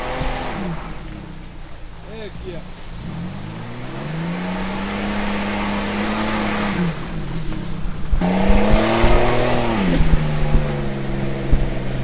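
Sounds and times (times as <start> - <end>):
car engine revving: 0.0 - 12.0
knocks and thumps: 0.0 - 12.0.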